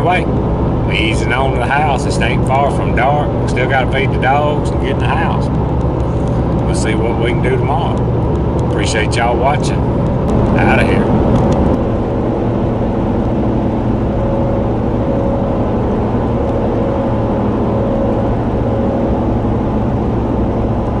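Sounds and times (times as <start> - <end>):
vehicle road and engine noise: 0.0 - 21.0.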